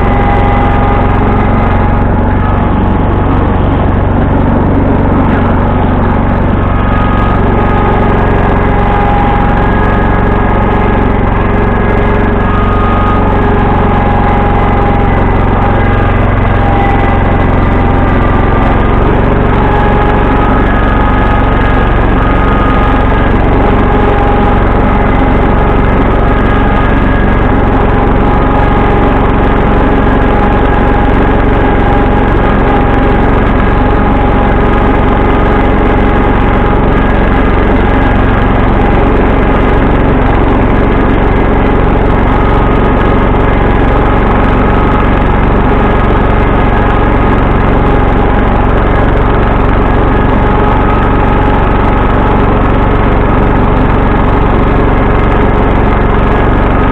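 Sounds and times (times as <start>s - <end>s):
garden tractor engine running: 0.0s - 56.9s.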